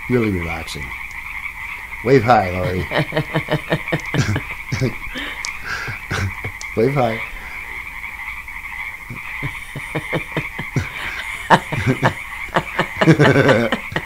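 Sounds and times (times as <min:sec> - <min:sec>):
frogs trilling: 0:00.0 - 0:14.0.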